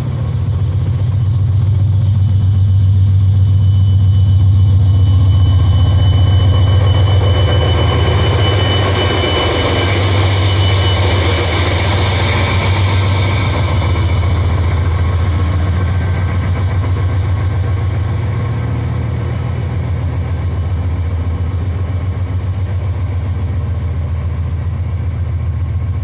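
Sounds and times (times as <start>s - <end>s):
locomotive engine drone: 0.0s - 26.0s
thin high whine: 0.6s - 22.0s.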